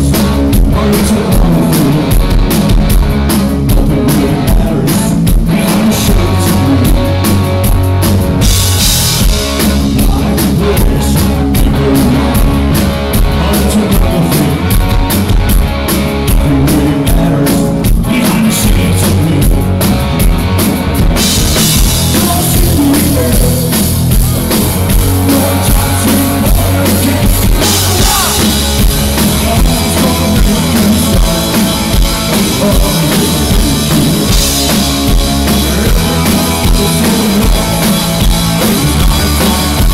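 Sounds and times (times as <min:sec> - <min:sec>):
lead singer: 0:00.0 - 0:39.9
live rock band playing: 0:00.0 - 0:39.9.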